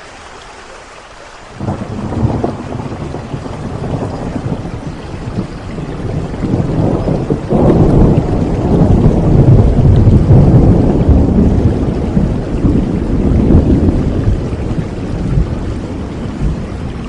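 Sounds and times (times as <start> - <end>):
rain falling: 0.0 - 17.0
rolling thunder: 1.6 - 17.0.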